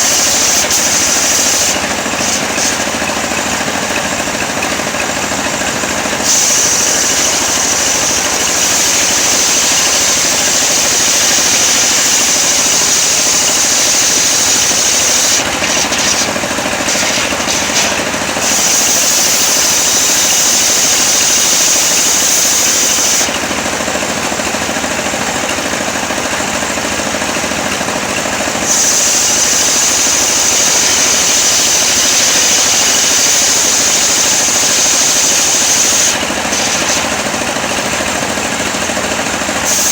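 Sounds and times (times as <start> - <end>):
saw cutting whine: 0.0 - 39.9
sawmill engine running: 0.0 - 39.9.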